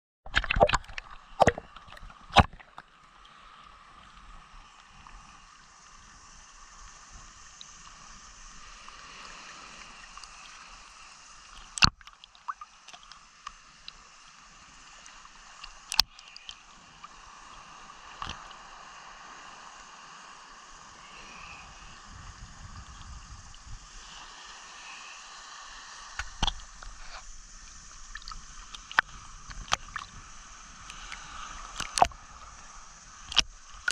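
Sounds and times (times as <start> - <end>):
small waves lapping: 0.3 - 33.9.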